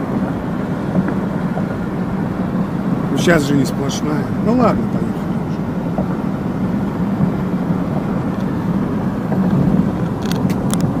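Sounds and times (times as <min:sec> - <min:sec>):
engine and tyre drone: 0:00.0 - 0:11.0
low hum: 0:00.0 - 0:11.0.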